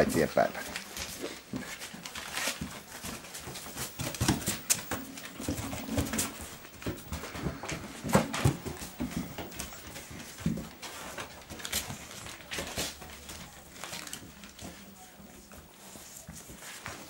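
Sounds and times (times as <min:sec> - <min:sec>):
scuffling: 0:00.0 - 0:17.0.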